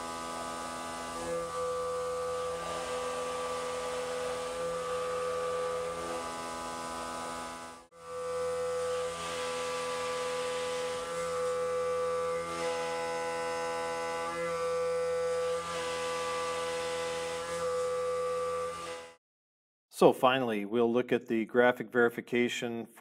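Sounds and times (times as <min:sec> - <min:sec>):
milling machine cutting steel: 0:00.0 - 0:19.2.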